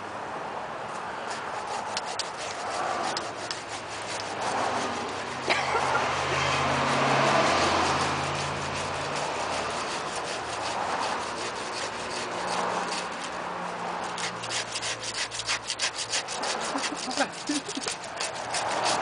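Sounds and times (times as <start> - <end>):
hand saw rasping through bone: 1.2 - 19.0.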